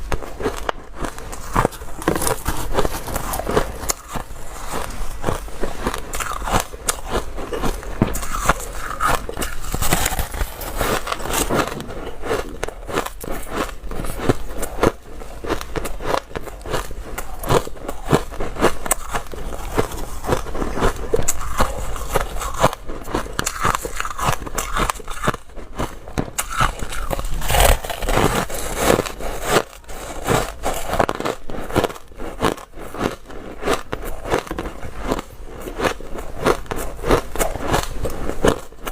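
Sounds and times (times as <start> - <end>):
ice being bitten and chewed: 0.0 - 38.9.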